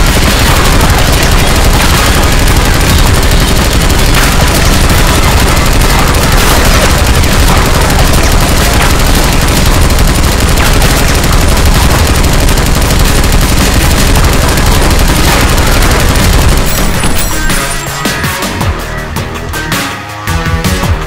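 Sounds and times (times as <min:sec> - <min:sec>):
rapid machine-gun fire: 0:00.0 - 0:18.3.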